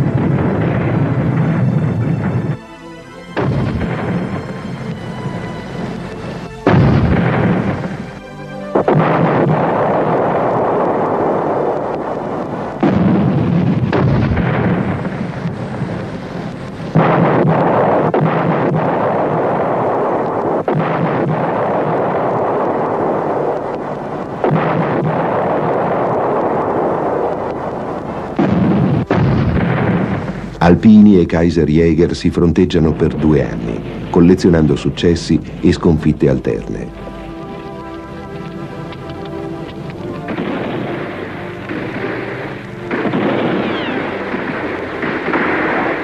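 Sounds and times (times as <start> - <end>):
artillery booms with rolling rumble: 0.0 - 2.6, 3.3 - 46.0.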